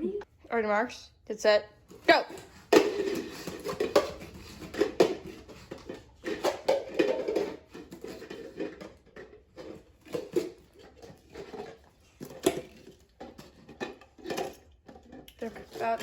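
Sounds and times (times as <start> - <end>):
plastic cups clacking: 1.8 - 16.0.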